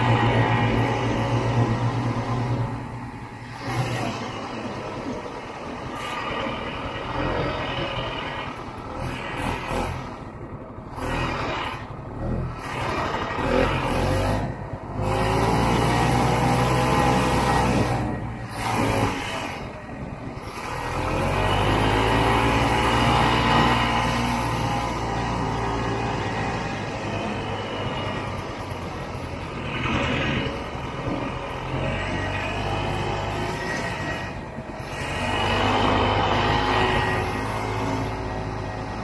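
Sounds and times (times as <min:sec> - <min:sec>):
snowmobile engine and track running: 0:00.0 - 0:39.0.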